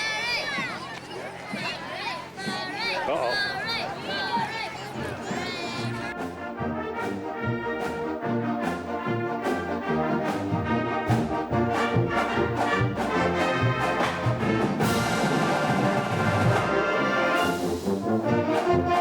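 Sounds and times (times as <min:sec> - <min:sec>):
brass band music: 0:01.6 - 0:19.0.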